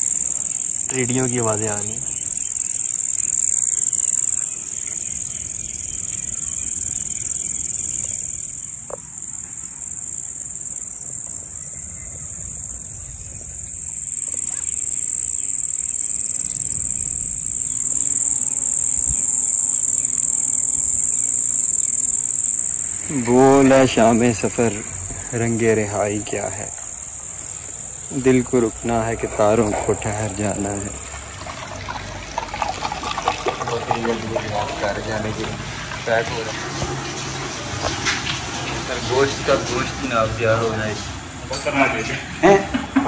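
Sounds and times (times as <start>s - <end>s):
pulsing insect chirp: 0.0s - 42.0s
crickets trilling: 0.0s - 43.0s.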